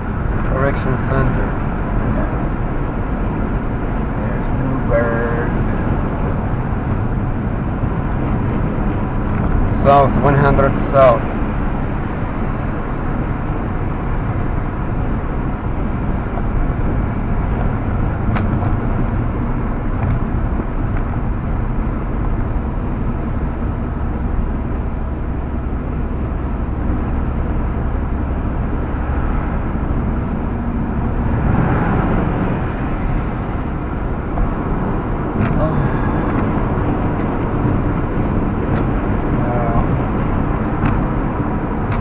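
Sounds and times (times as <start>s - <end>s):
car interior road noise: 0.0s - 42.0s.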